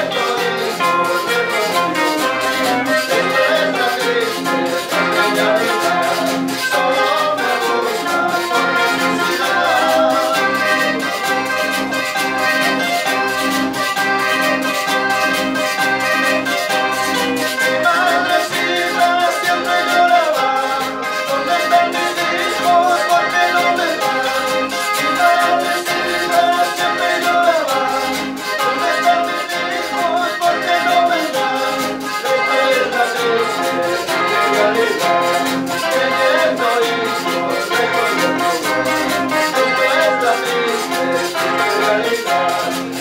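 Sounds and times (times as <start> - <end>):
metal percussion rhythm: 0.0 - 43.0
piano accordion melody: 0.0 - 43.0
strummed acoustic guitars: 0.0 - 43.0.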